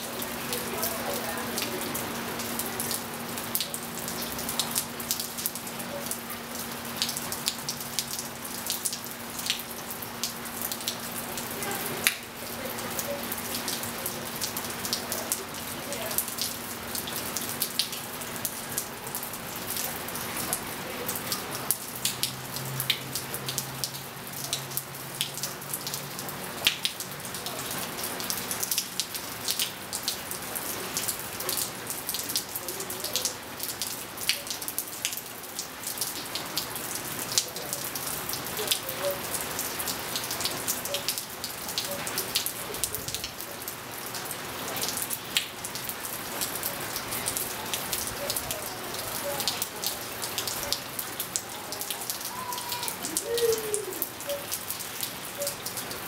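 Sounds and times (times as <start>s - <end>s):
rain pattering on tiles: 0.0s - 56.0s.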